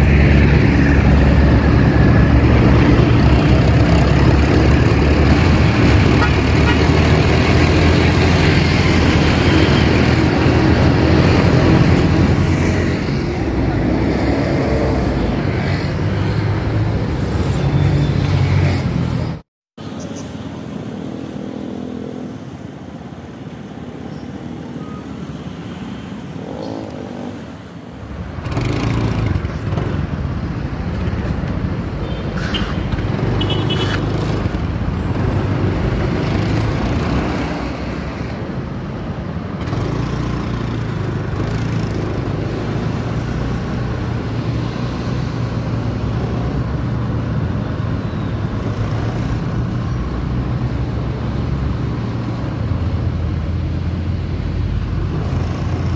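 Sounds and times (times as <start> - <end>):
passing cars and motorcycles: 0.0 - 55.9.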